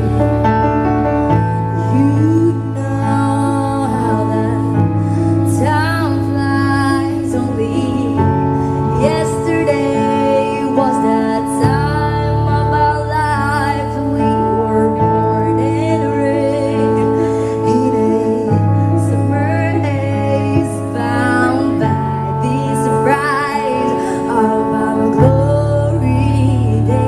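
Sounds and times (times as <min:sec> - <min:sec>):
woman singing with vibrato: 0:01.6 - 0:27.0.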